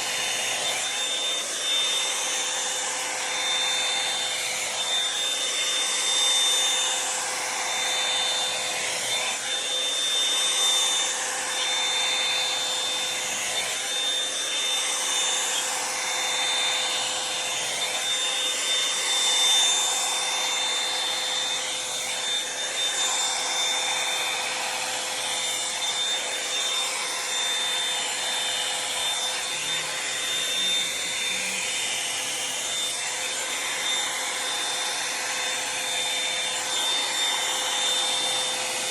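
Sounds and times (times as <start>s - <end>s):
hot-air brush blowing and whining: 0.0s - 38.9s.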